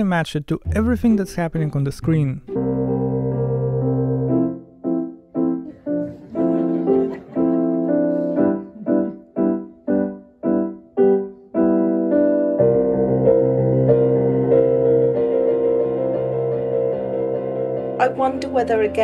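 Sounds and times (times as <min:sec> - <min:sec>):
piano chords: 0:00.6 - 0:01.7, 0:02.4 - 0:19.0.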